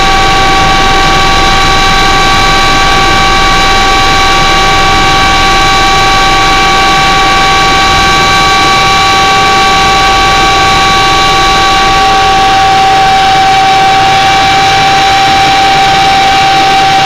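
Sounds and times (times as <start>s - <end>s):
aircraft engines whining: 0.0s - 17.0s.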